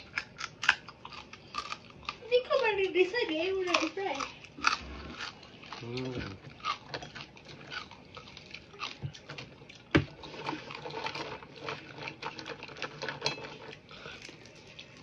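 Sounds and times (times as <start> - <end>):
crunchy chewing: 0.0 - 15.0.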